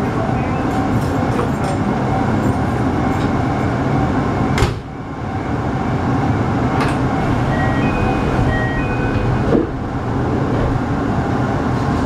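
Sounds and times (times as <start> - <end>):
train equipment hum: 0.0 - 12.0.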